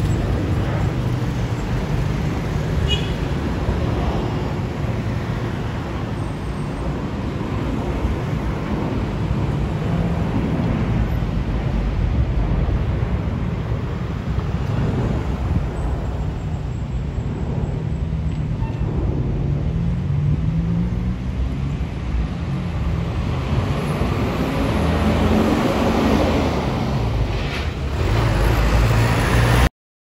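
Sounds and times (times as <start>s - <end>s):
jet engine rumble overhead: 0.0s - 29.4s.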